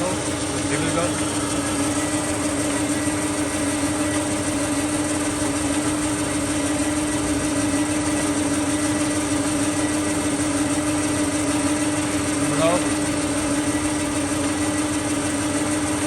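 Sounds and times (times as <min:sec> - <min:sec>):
grinder motor humming: 0:00.0 - 0:16.0.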